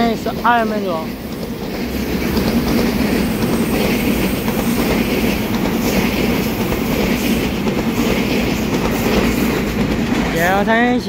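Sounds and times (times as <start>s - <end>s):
train wheels running on rails: 0.0s - 11.0s.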